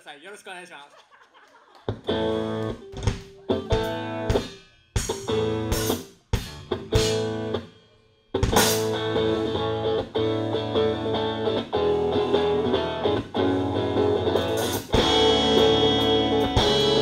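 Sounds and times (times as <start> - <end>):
rock band playing: 1.9 - 7.7, 8.3 - 17.0.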